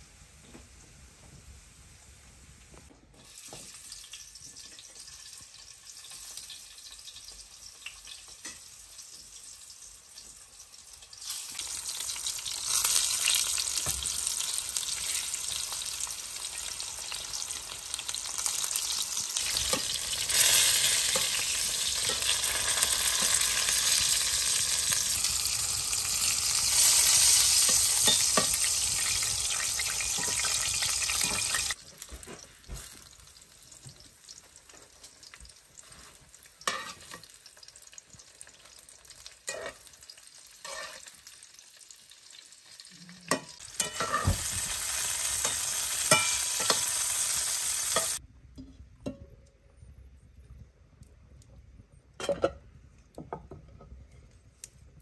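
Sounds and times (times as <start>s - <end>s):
food sizzling in hot oil: 3.2s - 48.2s.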